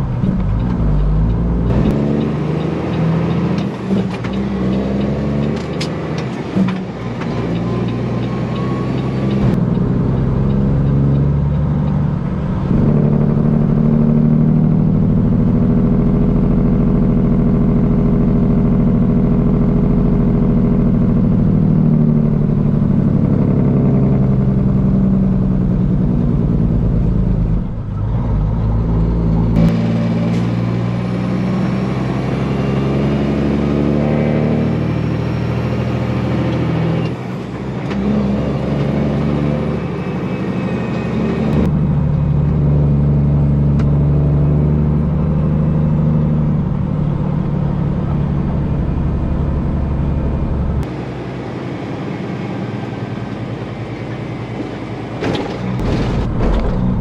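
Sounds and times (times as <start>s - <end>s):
truck diesel engine droning: 0.0s - 57.0s.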